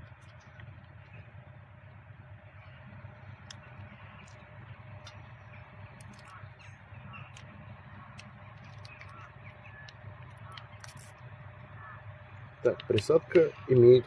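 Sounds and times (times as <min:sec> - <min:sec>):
faint crows cawing: 0:00.0 - 0:14.0
steady low hum: 0:00.0 - 0:14.0.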